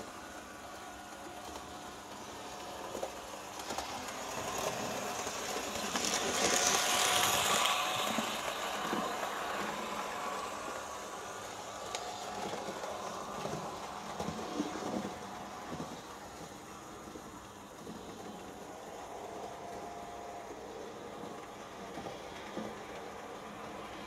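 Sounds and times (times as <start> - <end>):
model train motor hum: 0.0 - 24.0
model train wheels on metal track: 0.0 - 24.0.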